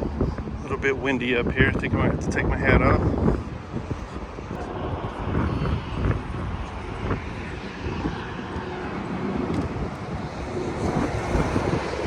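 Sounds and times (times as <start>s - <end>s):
gusty wind on microphone: 0.0s - 12.0s
road traffic rumble: 0.0s - 12.0s.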